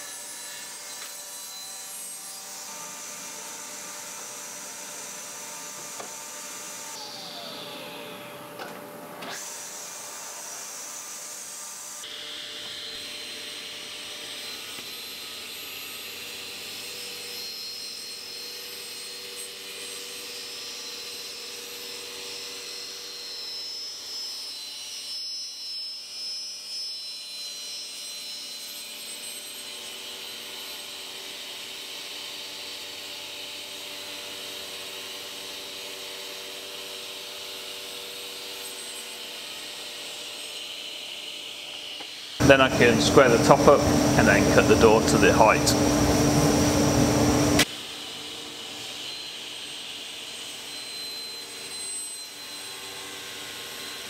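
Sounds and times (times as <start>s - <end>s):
panel saw cutting wood: 0.0s - 54.0s.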